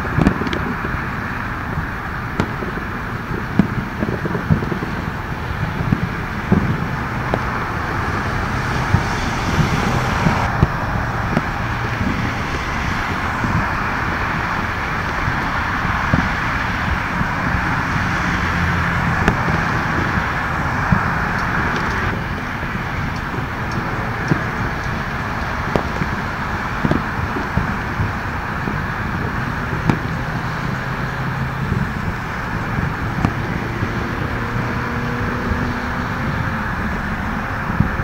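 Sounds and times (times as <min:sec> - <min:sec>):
distant fireworks bangs and pops: 0:00.0 - 0:38.0
steady rumble and hiss: 0:00.0 - 0:38.0.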